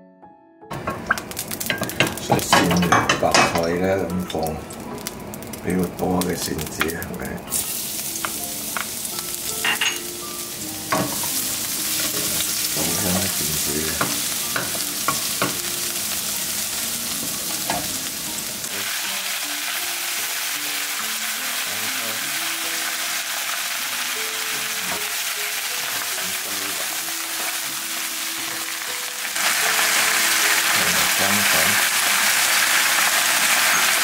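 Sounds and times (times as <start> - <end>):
garlic sizzling in hot oil: 0.7 - 34.0
greens stir-frying: 0.7 - 34.0.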